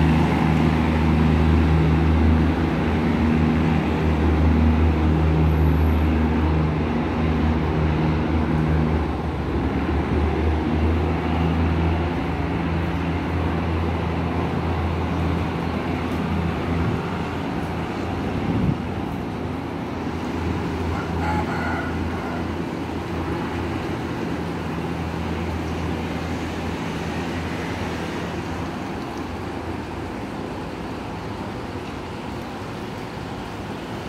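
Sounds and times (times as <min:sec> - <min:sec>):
railcar engine droning: 0:00.0 - 0:34.0.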